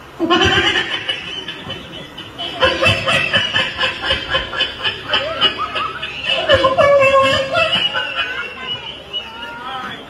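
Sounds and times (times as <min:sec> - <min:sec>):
audience laughing: 0:00.0 - 0:10.0.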